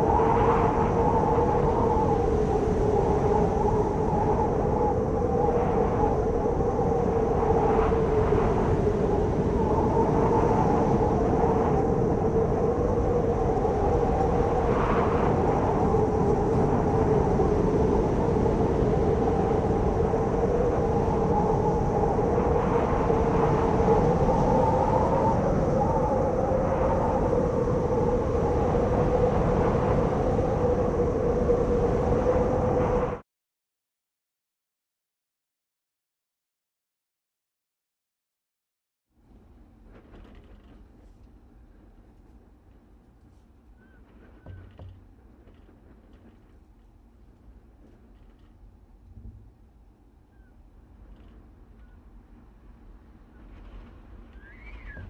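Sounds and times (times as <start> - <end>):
howling wind: 0.0 - 33.2, 39.2 - 55.0.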